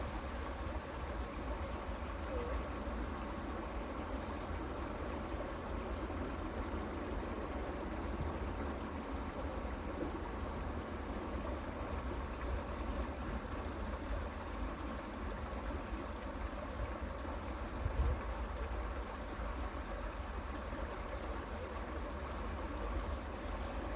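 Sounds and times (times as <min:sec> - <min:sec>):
creek water running: 0:00.0 - 0:23.9.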